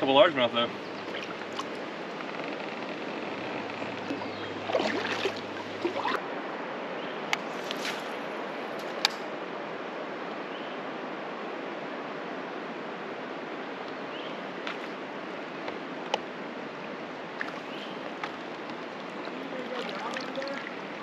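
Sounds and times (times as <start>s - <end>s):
river water rushing: 0.2s - 7.5s, 9.3s - 21.0s.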